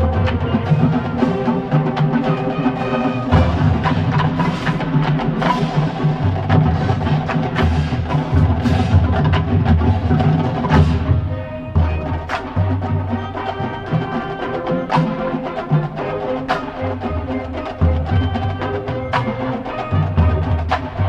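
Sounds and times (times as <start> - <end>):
sharp drum strokes: 0.0 - 17.1
marching band playing: 0.0 - 21.0.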